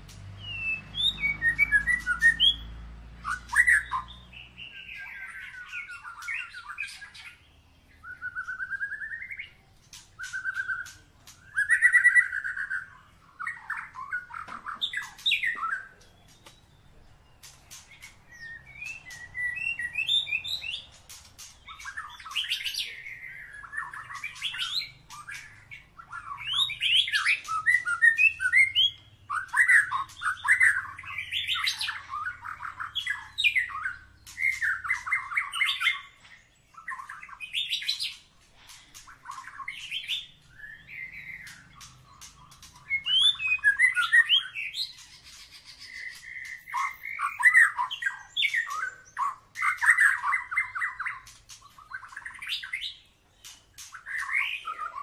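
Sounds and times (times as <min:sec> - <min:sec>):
songbird singing trills: 0:00.0 - 0:55.0.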